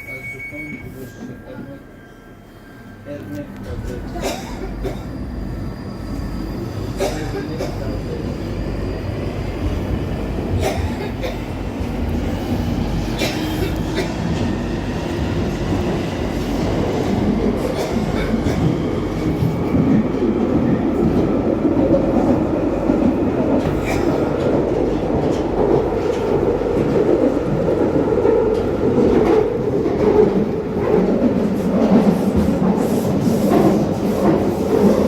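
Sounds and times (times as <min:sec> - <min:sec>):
underground train rumble: 0:00.0 - 0:35.0.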